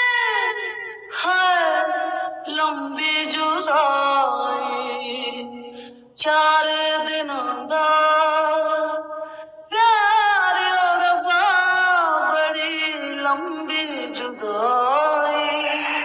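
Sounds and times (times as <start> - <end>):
person singing with vibrato: 0.0 - 16.0.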